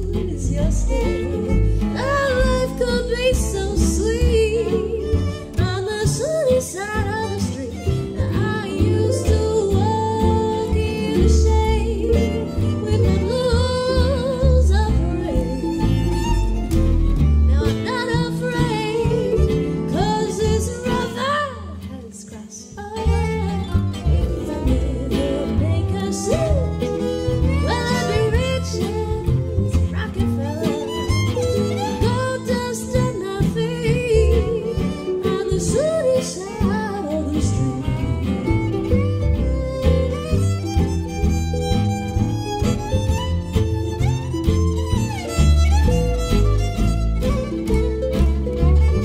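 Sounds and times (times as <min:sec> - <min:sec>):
woman singing: 0:00.0 - 0:16.6, 0:17.2 - 0:40.9
harp: 0:00.0 - 0:21.9, 0:22.9 - 0:49.0
fiddle playing sliding phrases: 0:00.0 - 0:22.1, 0:22.8 - 0:49.0
acoustic guitar: 0:00.0 - 0:49.0.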